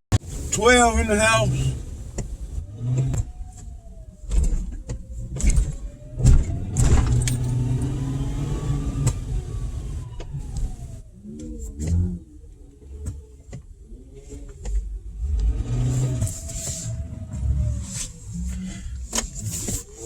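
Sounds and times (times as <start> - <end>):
car engine revving: 0.2 - 20.0.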